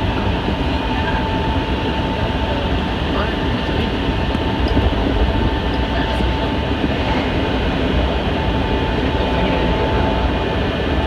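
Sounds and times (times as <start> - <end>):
thin steady whine: 0.0 - 11.0
train wheels rumbling: 0.0 - 11.0.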